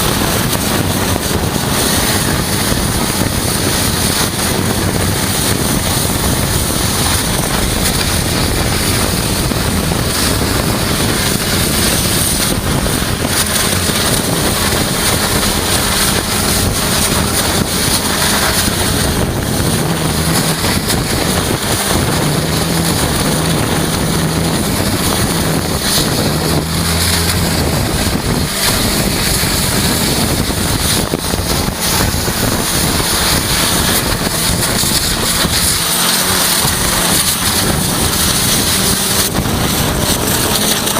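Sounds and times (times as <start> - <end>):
high-pressure water jet hissing: 0.0 - 40.9
low machine drone: 0.0 - 40.9.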